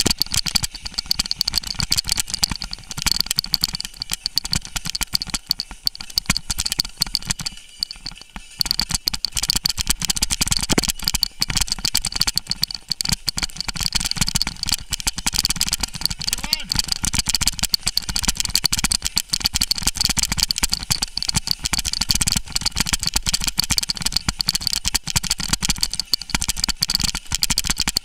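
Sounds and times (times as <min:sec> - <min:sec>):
bike rattling over stones: 0:00.0 - 0:28.0.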